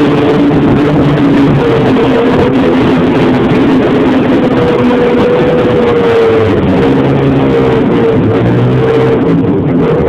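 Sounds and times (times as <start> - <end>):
snowmobile engine droning: 0.0 - 10.0.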